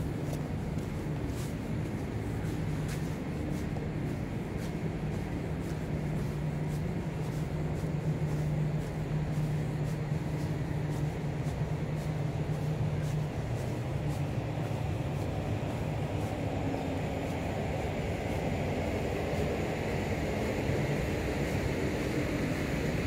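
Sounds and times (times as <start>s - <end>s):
faint footsteps: 0.0s - 22.7s
steady low hum: 0.0s - 23.0s
urban background rumble: 0.0s - 23.0s.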